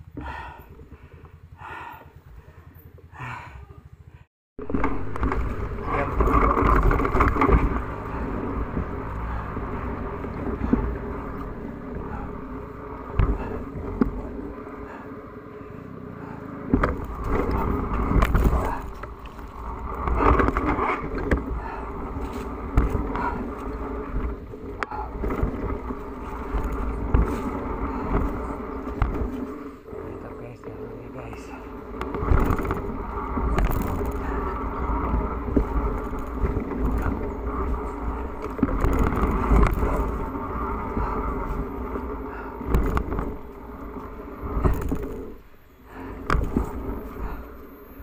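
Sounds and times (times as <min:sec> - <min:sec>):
knocks and rattles from bumps: 0:04.6 - 0:15.2, 0:16.2 - 0:47.6
dirt bike engine revving: 0:04.6 - 0:45.4.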